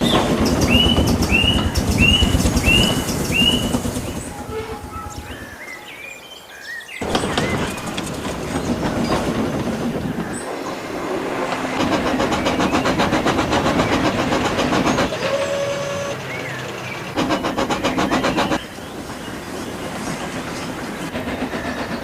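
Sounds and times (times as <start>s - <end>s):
train running fast: 0.0s - 5.8s, 7.0s - 22.0s.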